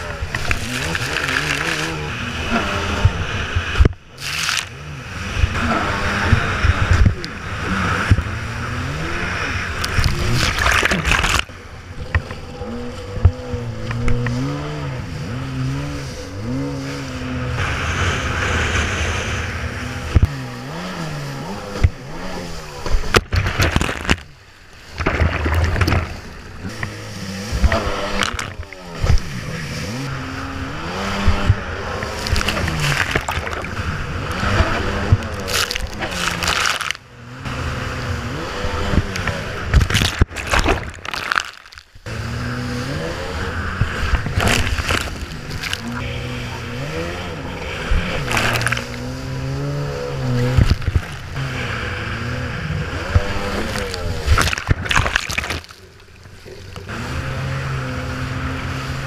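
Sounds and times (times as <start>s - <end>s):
jet ski engine revving: 0.0s - 59.0s.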